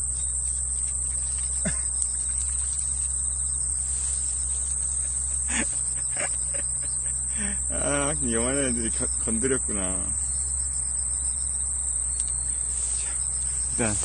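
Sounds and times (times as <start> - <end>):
insects chirring: 0.0 - 14.0
low steady hum: 0.0 - 14.0.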